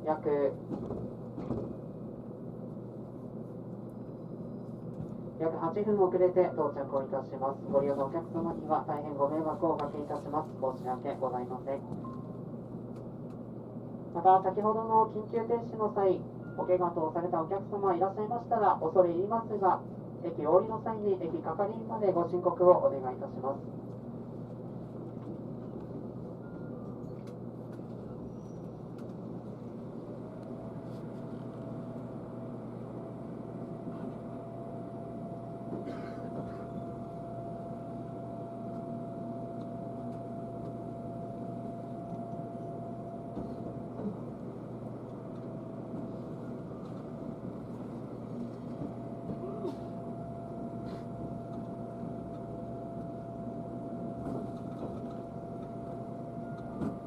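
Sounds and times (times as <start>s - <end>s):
train running noise: 0.0s - 17.0s, 21.2s - 57.0s.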